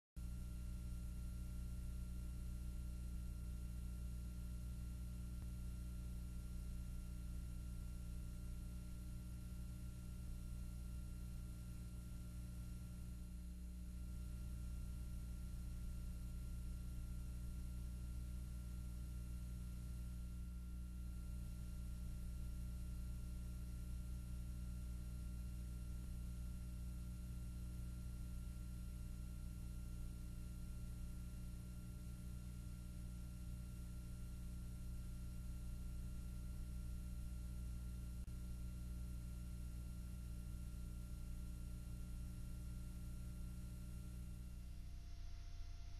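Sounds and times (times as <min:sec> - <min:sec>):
low electrical hum: 0:00.2 - 0:45.9.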